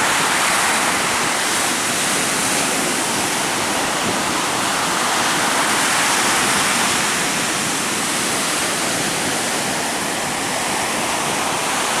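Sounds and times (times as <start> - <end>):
strong wind: 0.0 - 12.0.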